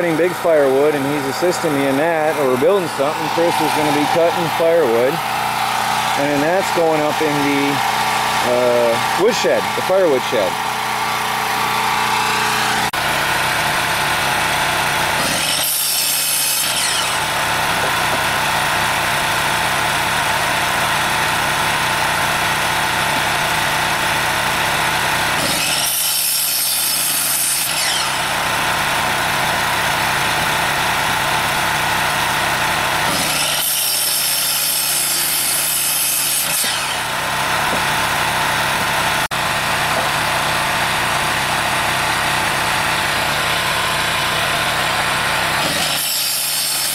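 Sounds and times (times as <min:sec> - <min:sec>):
small engine droning: 0:00.0 - 0:33.8, 0:35.1 - 0:46.0
miter saw cutting branches: 0:00.0 - 0:46.9.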